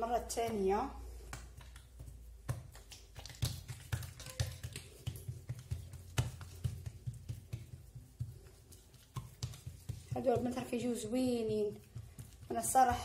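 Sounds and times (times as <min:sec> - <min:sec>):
hands patting dough: 0:00.0 - 0:13.0.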